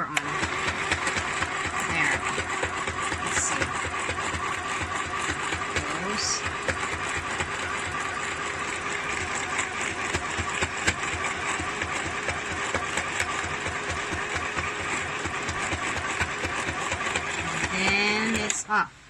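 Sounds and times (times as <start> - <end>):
needle strokes clattering: 0.0 - 18.6
sewing machine motor humming: 0.0 - 18.7.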